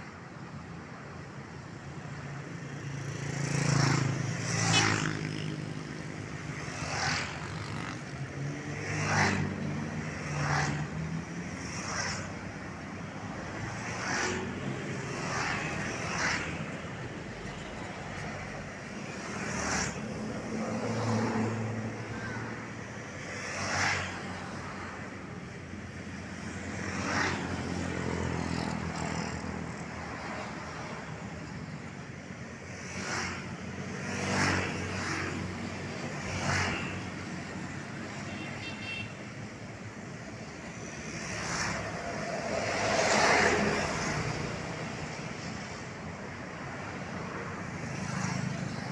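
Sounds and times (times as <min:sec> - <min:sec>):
cars passing: 0:00.0 - 0:48.9
motorcycles passing: 0:01.9 - 0:48.9.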